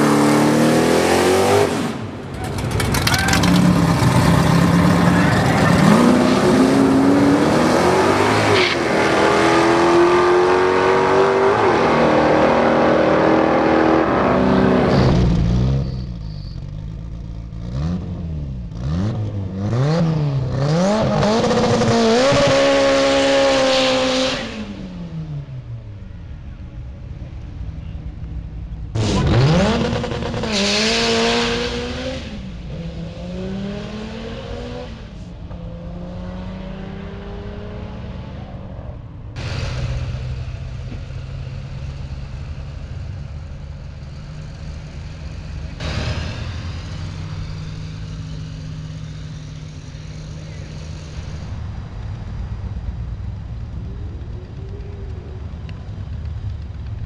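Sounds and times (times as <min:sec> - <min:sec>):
car engine revving: 0:00.0 - 0:25.9, 0:28.8 - 0:57.0.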